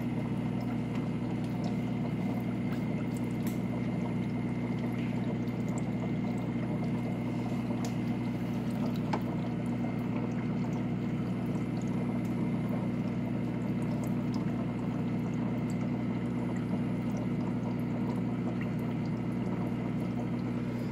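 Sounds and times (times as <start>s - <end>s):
steady electrical hum: 0.0s - 20.9s
trickling pouring water: 0.0s - 20.9s.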